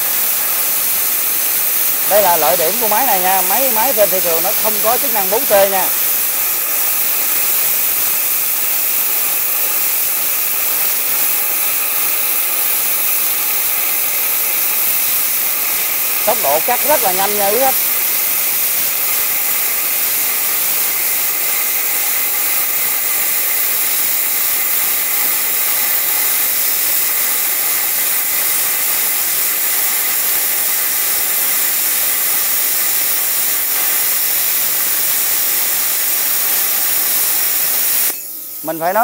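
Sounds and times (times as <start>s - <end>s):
plasma cutter hissing: 0.0s - 39.0s.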